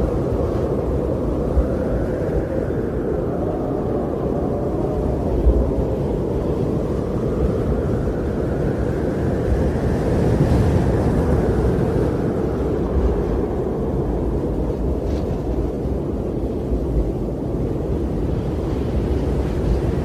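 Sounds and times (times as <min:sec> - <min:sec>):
strong wind rushing: 0:00.0 - 0:20.0.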